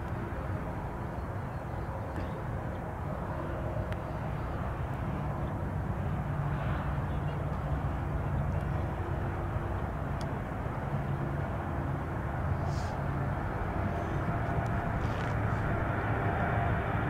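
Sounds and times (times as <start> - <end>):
distant airliner engines rumbling: 0.0 - 17.0
faint steady tones: 0.0 - 17.0.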